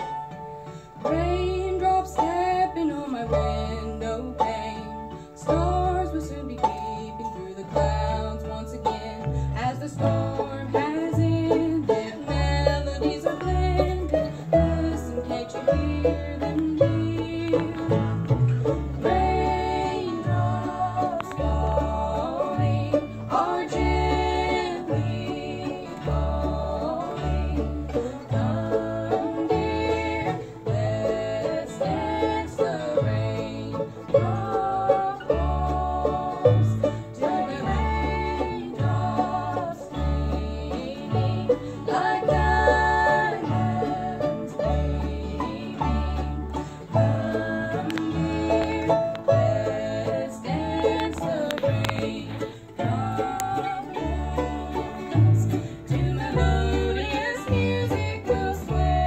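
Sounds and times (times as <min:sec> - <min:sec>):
acoustic guitar: 0:00.0 - 0:59.0
banjo: 0:00.0 - 0:59.0
fiddle: 0:00.0 - 0:59.0
mandolin: 0:00.0 - 0:59.0
upright bass: 0:00.0 - 0:59.0
women singing: 0:00.9 - 0:59.0.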